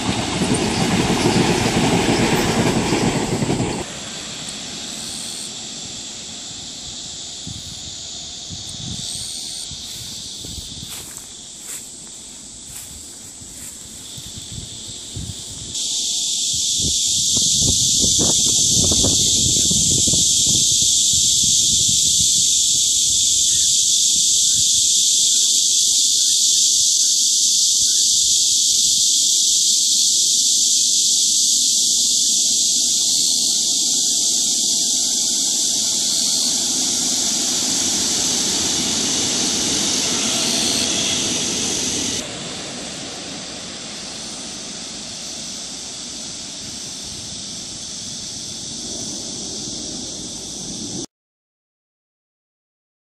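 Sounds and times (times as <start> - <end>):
cicadas droning: 0.0 - 51.1
metro train rumbling on viaduct: 0.0 - 51.1.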